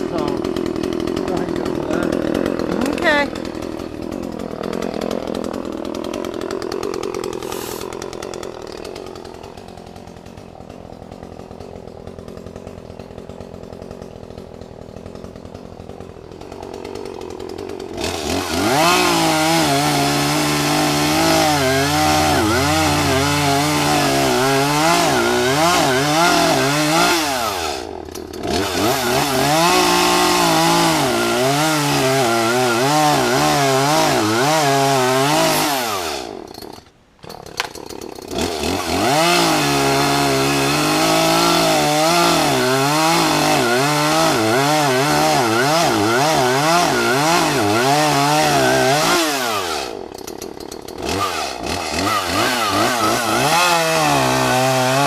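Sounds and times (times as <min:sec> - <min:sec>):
chainsaw revving through wood: 0:00.0 - 0:55.0.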